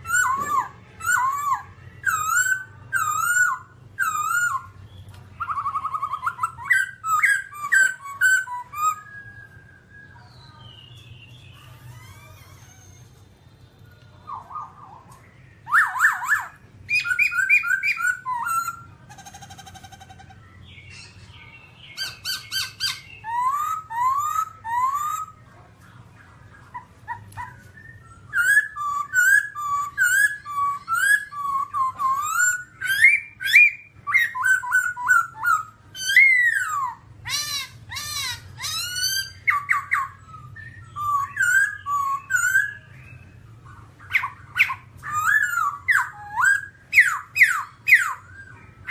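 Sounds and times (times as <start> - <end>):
bird singing whistled notes: 0.0 - 13.2, 13.8 - 25.4, 26.6 - 48.9.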